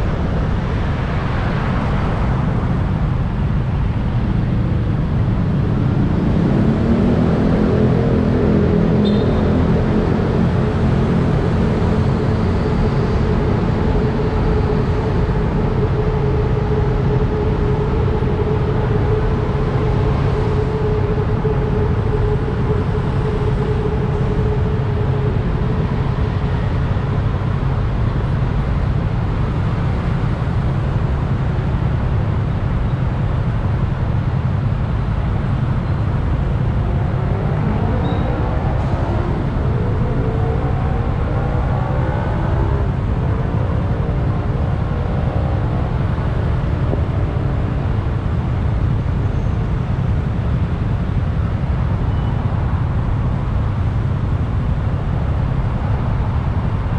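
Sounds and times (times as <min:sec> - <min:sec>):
steady tone: 0:00.0 - 0:31.4, 0:33.6 - 0:50.8
motorbike engine and road rumble: 0:00.0 - 0:56.9
wind noise on microphone: 0:00.0 - 0:56.9.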